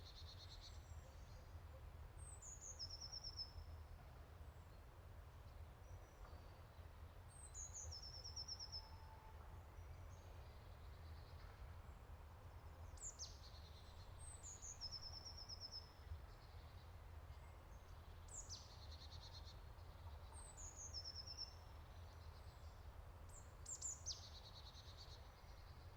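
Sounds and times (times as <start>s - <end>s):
faint birdsong with trill: 0.0s - 3.8s, 5.5s - 25.9s.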